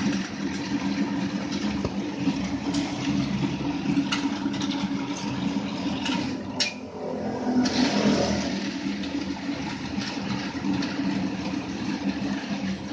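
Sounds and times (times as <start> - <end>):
motor hum: 0.0 - 12.9.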